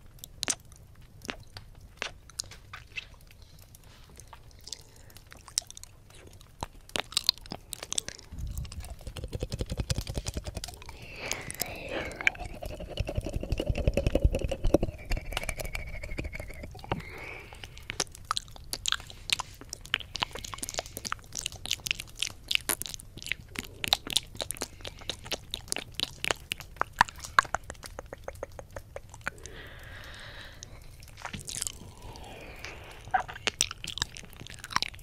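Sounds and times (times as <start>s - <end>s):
wet lip and tongue clicks: 0.0s - 35.0s
tongue flutter: 2.9s - 35.0s.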